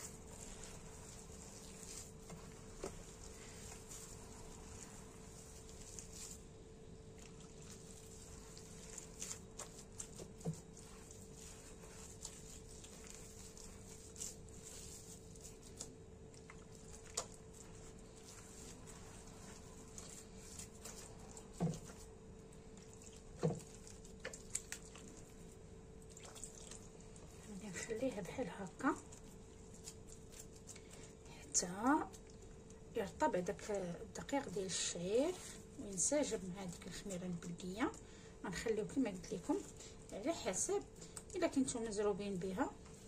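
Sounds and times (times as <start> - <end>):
hands rustling flour mix: 0.0 - 25.6, 26.2 - 43.0
faint steady hum: 0.0 - 43.0.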